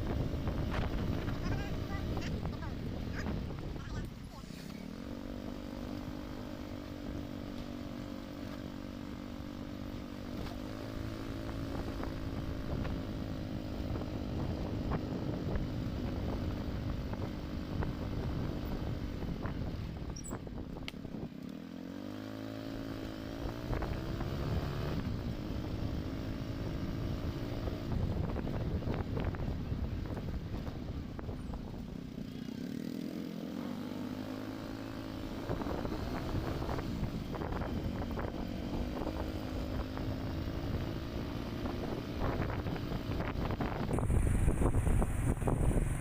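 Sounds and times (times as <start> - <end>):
small motorcycle engine running: 0.0 - 46.0.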